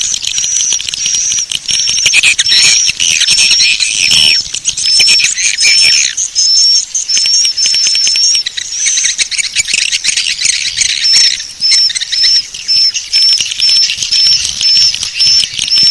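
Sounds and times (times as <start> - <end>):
swiftlets twittering and chirping: 0.0 - 15.9.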